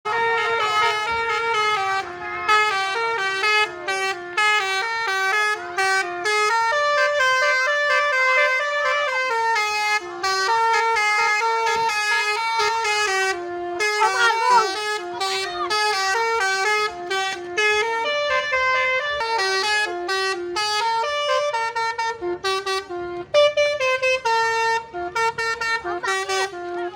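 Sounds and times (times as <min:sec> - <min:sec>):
bus horn playing a melody: 0:00.0 - 0:26.9.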